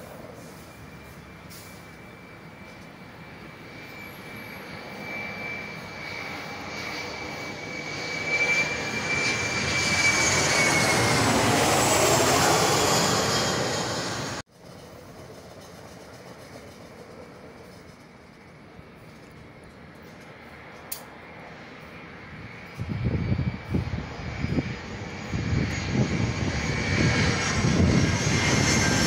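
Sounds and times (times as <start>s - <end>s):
jet airliner flying overhead: 0.0s - 29.0s.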